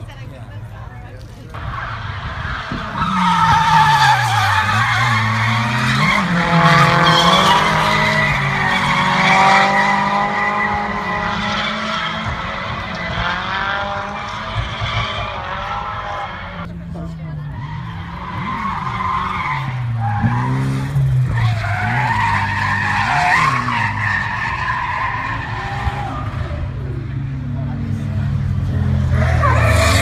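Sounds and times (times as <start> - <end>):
car engine revving: 1.5 - 30.0.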